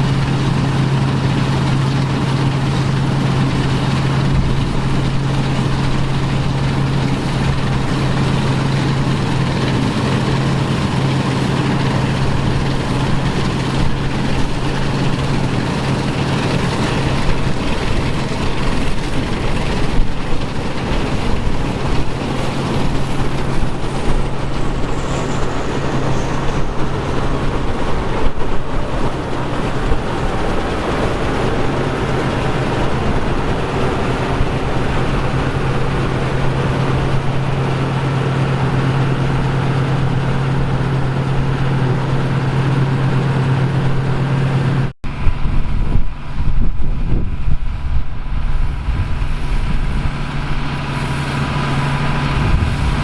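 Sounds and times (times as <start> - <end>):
farm machinery engine running: 0.0 - 53.0.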